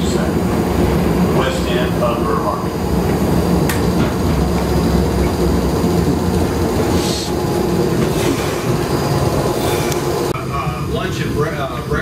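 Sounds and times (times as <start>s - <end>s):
streetcar rumbling on rails: 0.0s - 12.0s.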